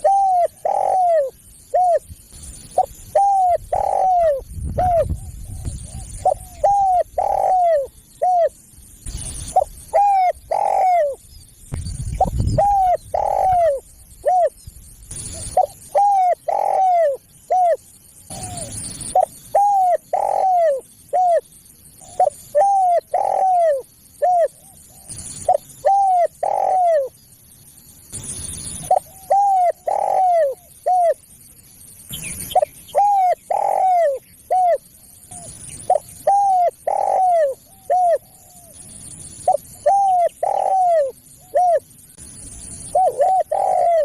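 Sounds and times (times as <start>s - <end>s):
dove cooing: 0.0s - 11.2s, 12.2s - 27.2s, 28.6s - 31.2s, 32.2s - 41.9s, 42.8s - 44.0s.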